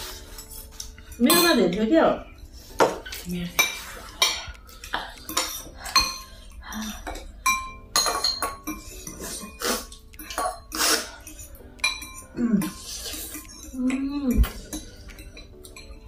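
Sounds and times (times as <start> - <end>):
cutlery clinking on ceramic dishes: 0.0 - 16.0.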